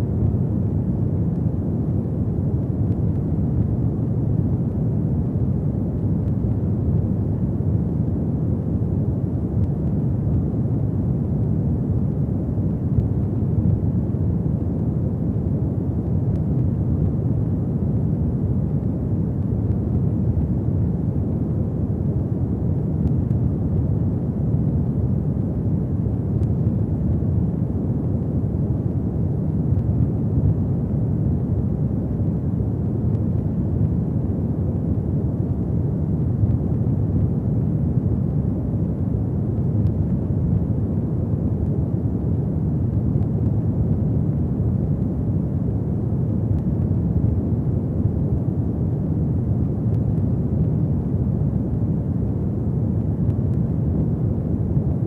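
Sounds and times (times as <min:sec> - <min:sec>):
faint fire crackles: 0:00.1 - 0:55.0.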